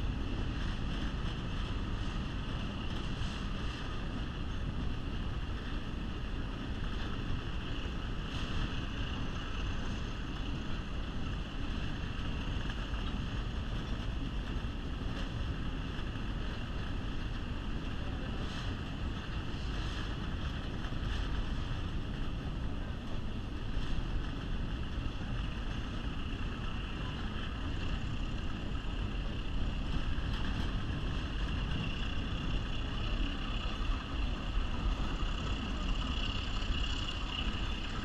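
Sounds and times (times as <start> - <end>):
train rumbling on rails: 0.0 - 38.0.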